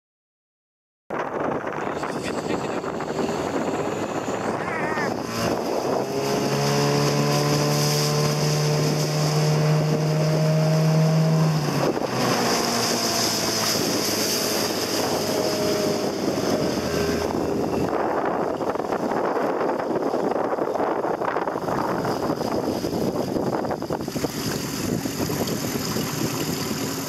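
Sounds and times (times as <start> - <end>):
wind on microphone: 1.1 - 27.0
outboard motor running: 1.2 - 27.0.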